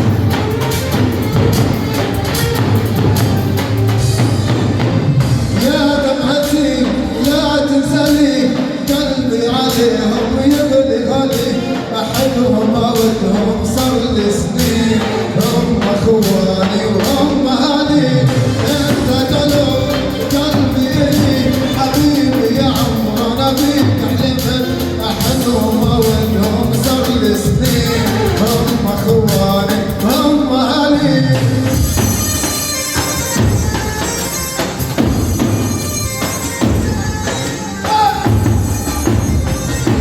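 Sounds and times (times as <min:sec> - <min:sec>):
ornamented melody line: 0:00.0 - 0:08.4, 0:14.8 - 0:40.0
percussion beat: 0:00.0 - 0:30.4, 0:31.3 - 0:40.0.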